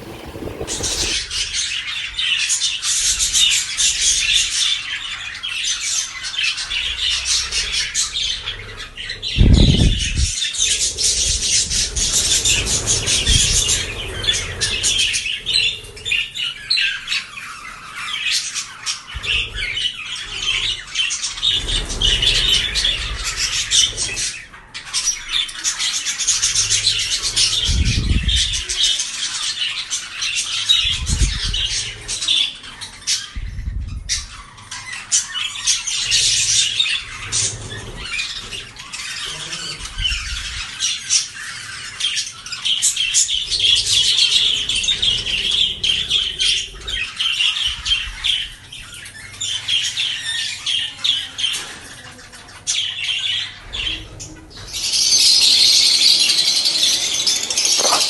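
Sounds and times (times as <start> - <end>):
birds chirping and squawking: 0.0 - 58.0.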